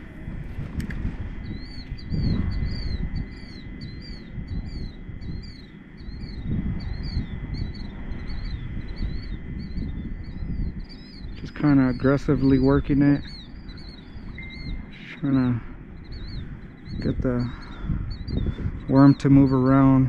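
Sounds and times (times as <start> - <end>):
wind rumble on microphone: 0.0 - 20.0
small bird chirping: 1.4 - 20.0.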